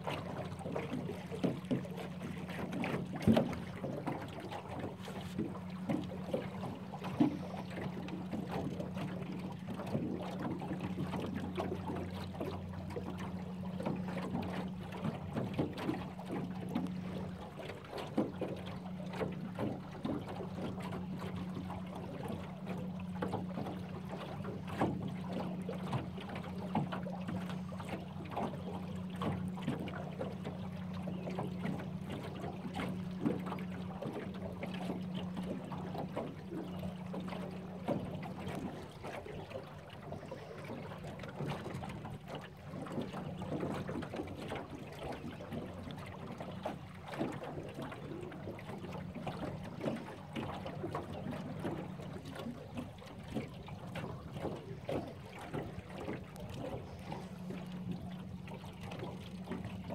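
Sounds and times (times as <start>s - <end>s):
outboard motor running: 0.0s - 59.9s
waves slapping against hull: 0.0s - 59.9s.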